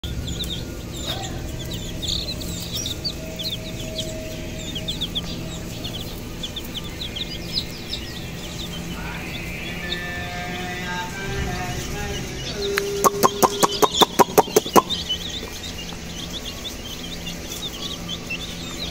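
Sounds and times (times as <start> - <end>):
steady deep rumble: 0.0 - 17.4
chicks peeping: 0.0 - 18.9.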